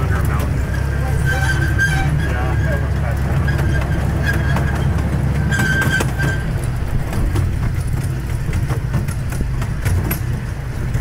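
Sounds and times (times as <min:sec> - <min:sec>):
small train engine rumble: 0:00.0 - 0:11.0
train cars clicking and rattling: 0:00.0 - 0:11.0.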